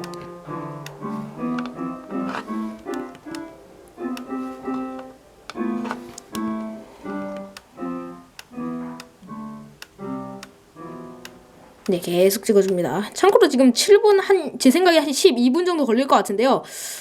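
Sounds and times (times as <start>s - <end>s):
piano chords: 0.0s - 13.9s.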